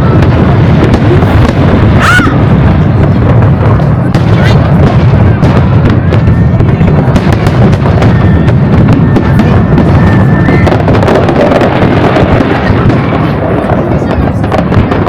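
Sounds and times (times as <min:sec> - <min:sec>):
fireworks bursting and cracking: 0:00.0 - 0:15.0.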